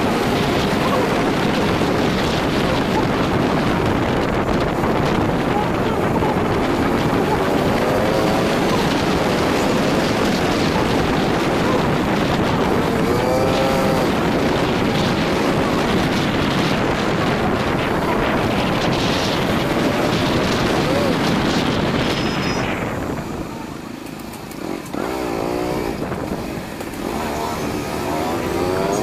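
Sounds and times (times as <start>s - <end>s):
vehicle running noise: 0.0s - 29.0s
wind buffeting microphone: 0.0s - 29.0s.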